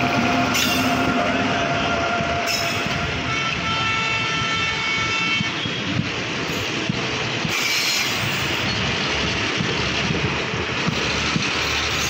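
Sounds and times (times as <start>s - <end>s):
steel wheels rushing on rail: 0.0s - 12.0s.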